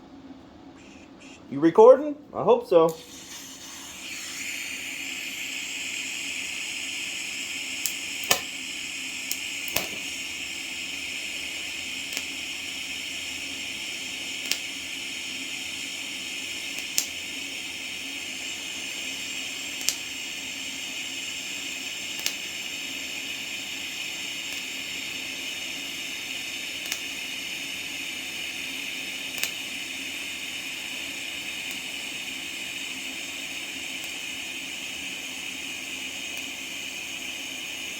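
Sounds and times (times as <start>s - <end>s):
welding arc hissing and buzzing: 2.9s - 37.9s.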